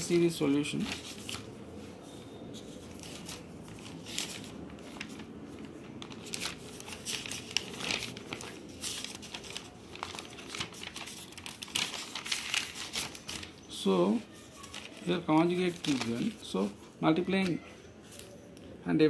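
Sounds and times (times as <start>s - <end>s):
paper rustling and crinkling: 0.0s - 18.4s.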